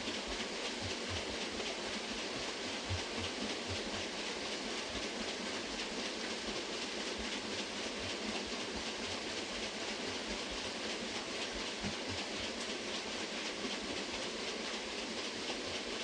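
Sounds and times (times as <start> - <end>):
water wheel knocking and clattering: 0.0 - 16.0.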